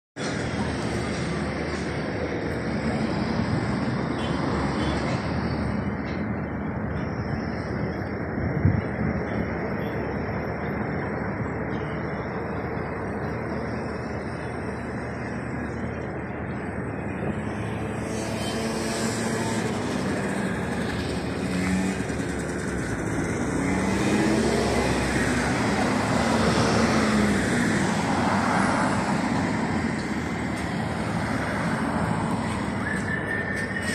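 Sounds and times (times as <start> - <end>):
vehicles passing on road: 0.2 - 33.9.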